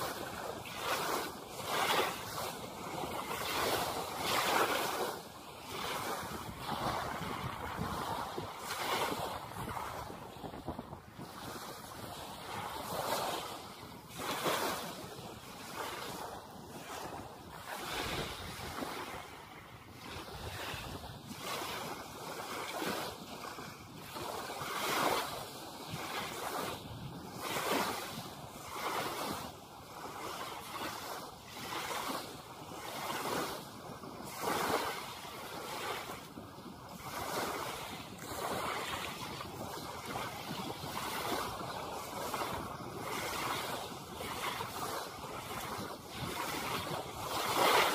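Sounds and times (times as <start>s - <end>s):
small waves washing ashore: 0.0s - 47.9s
wind on microphone: 0.0s - 47.9s.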